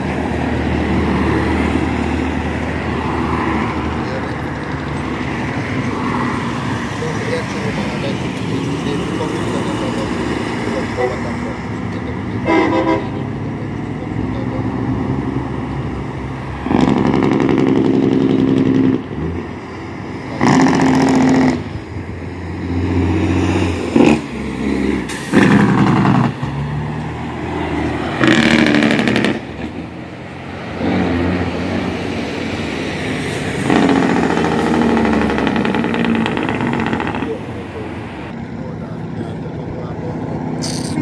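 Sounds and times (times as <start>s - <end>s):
trucks and cars passing: 0.0s - 41.0s.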